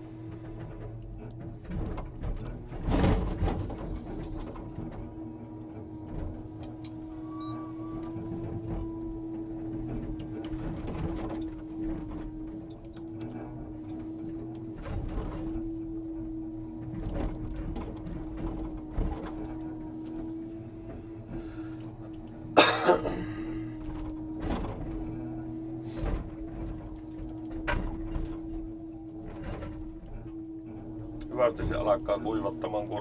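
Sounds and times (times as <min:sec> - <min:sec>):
hydraulic crane whine: 0:02.8 - 0:33.0.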